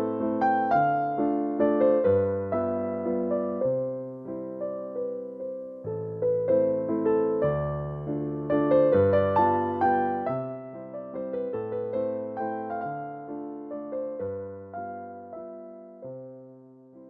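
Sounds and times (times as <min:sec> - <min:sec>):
piano playing gentle chords: 0:00.0 - 0:17.0.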